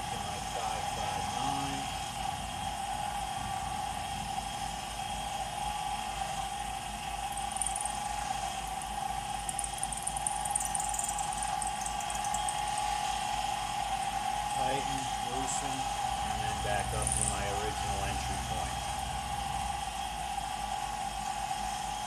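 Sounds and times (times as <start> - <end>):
mill spindle whine: 0.0 - 22.0.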